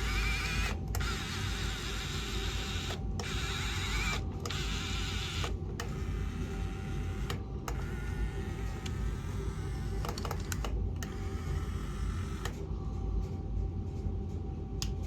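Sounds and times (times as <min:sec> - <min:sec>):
toy electric motors whirring: 0:00.0 - 0:12.6.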